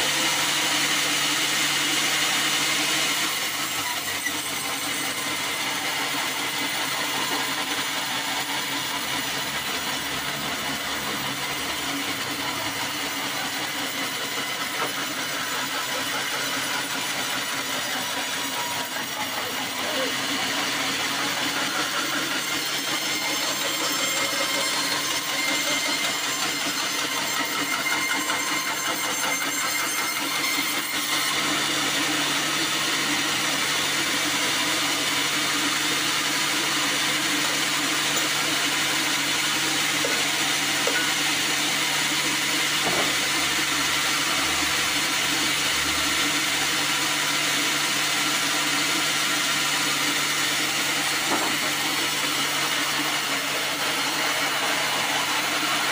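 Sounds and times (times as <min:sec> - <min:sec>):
saw blade cutting log: 0:00.0 - 0:55.9.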